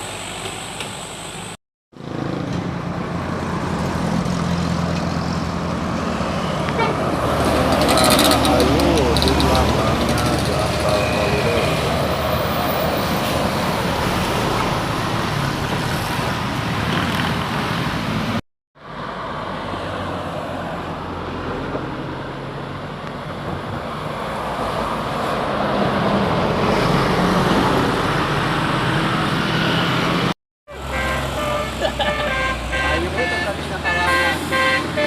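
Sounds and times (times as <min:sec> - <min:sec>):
road traffic passing: 0:00.0 - 0:35.0
vehicle drawing close: 0:00.0 - 0:35.0.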